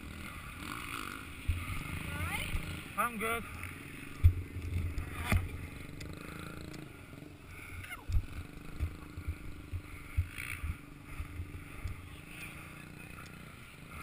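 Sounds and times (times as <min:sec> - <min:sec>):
motorbike engine at low revs: 0:00.0 - 0:14.0.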